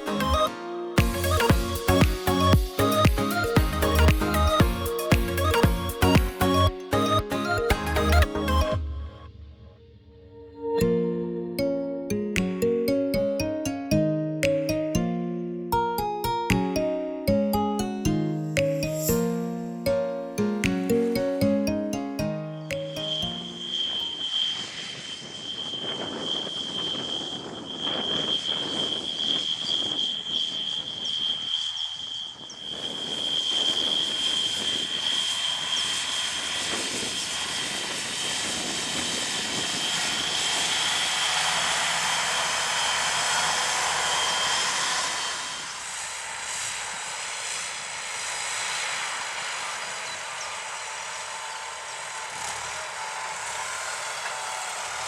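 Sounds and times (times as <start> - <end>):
tractor engine drone: 0.0 - 10.4, 18.6 - 55.0
high engine whine: 0.0 - 10.8, 20.9 - 55.0.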